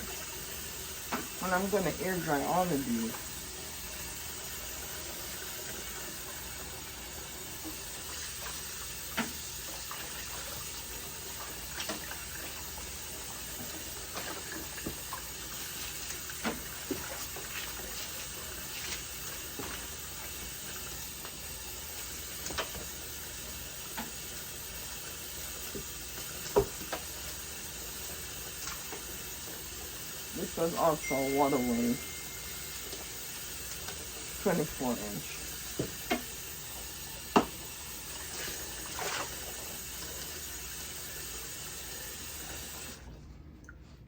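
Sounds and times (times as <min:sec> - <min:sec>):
tap water running into sink: 0:00.0 - 0:43.8.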